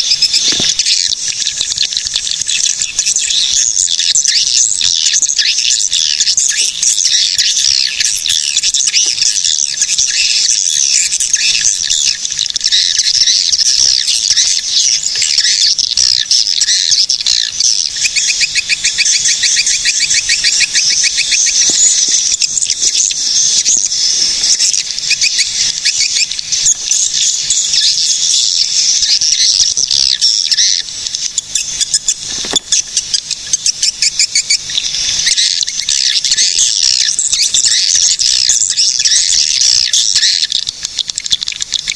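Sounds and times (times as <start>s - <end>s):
birds twittering: 0.0s - 41.9s.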